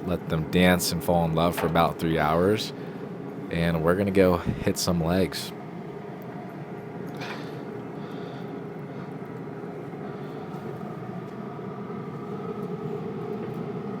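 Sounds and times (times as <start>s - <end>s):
mechanical rumble with hum: 0.0s - 14.0s.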